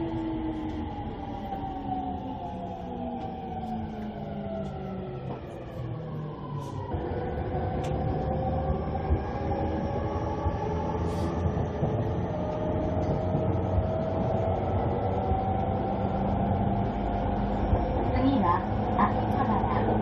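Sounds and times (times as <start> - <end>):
train wheels and motors rumbling: 0.0 - 20.0.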